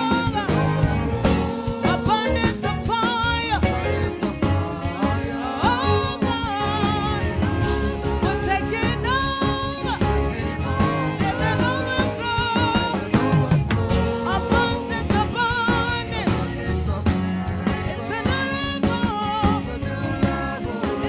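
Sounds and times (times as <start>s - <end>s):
band playing steady beat: 0.0s - 21.0s
person singing worship song: 0.0s - 21.0s.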